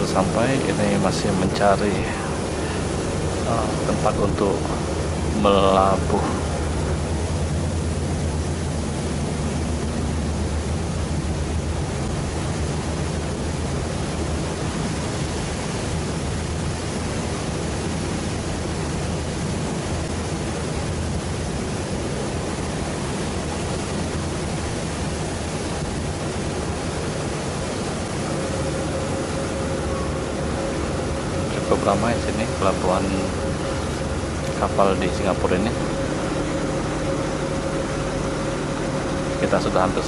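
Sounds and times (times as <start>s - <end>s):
faint steady whine: 0.0s - 40.0s
ferry engine drone: 0.0s - 40.0s
low hum: 0.0s - 40.0s
water rushing: 0.0s - 40.0s
wind: 0.0s - 40.0s.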